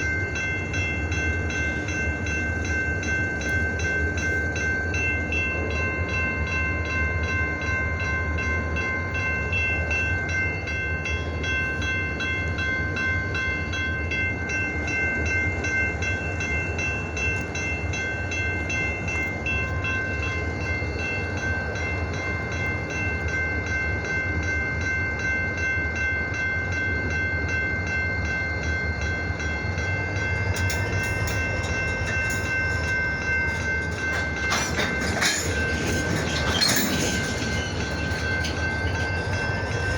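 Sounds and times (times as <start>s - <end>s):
diesel locomotives rumbling: 0.0s - 39.9s
high ringing tones: 0.0s - 39.9s.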